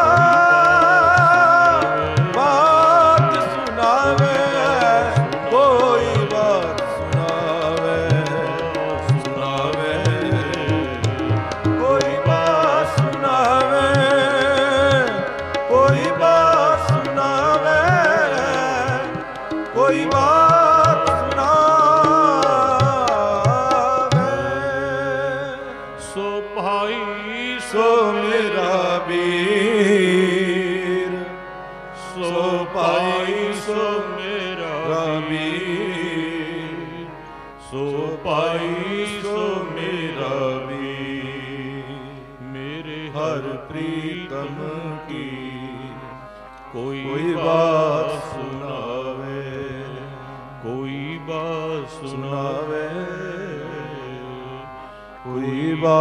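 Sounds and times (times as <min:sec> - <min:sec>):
harmonium drone and chords: 0:00.0 - 0:56.0
person singing devotional melody: 0:00.0 - 0:56.0.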